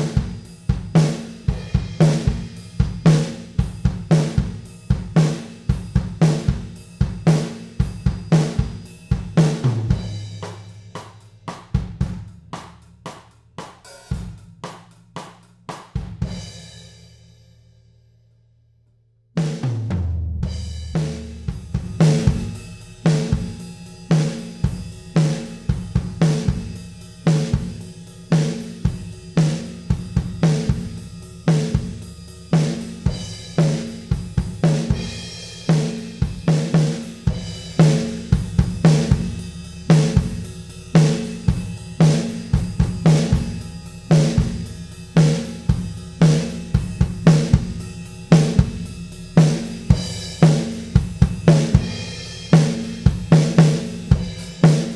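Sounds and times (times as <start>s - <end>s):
drum kit groove: 0.0s - 17.3s, 19.4s - 54.9s.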